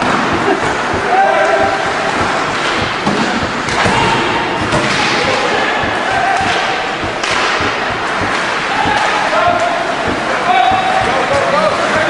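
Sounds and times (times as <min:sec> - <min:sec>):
crowd din: 0:00.0 - 0:12.0
people shouting: 0:00.0 - 0:12.0
thuds against hockey boards: 0:00.0 - 0:12.0.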